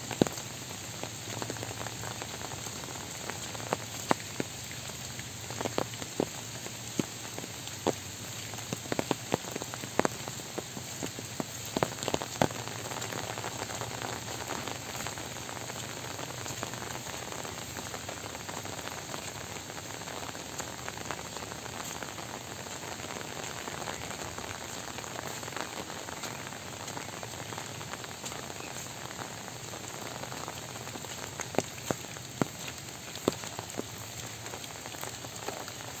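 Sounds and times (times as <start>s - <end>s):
soft rain falling: 0.0s - 36.0s.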